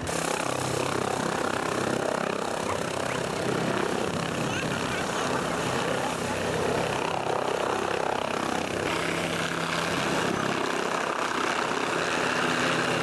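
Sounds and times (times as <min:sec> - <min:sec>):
turbine aircraft engine hum: 0:00.0 - 0:13.0.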